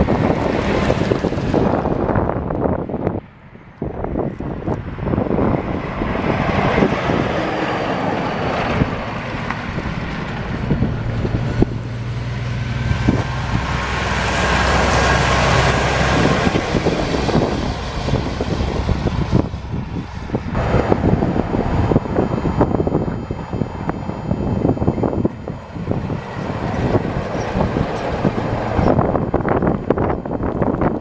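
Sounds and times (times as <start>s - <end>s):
dump truck driving past: 0.0s - 31.0s
wind noise on microphone: 0.0s - 31.0s.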